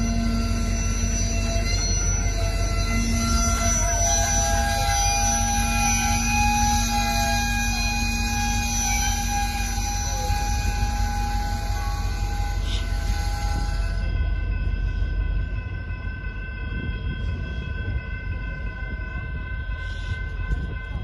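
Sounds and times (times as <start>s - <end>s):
steady train tones: 0.0s - 21.0s
train rumble: 0.0s - 21.0s.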